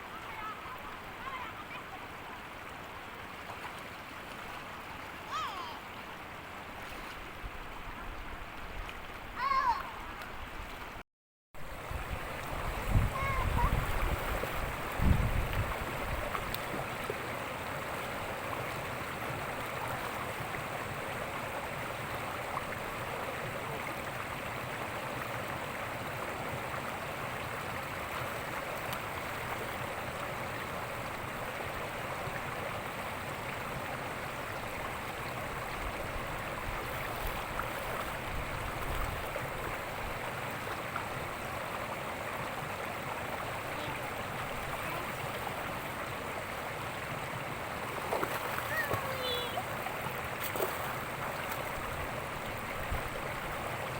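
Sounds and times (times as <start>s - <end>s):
river water rushing: 0.0s - 10.8s, 11.6s - 53.9s.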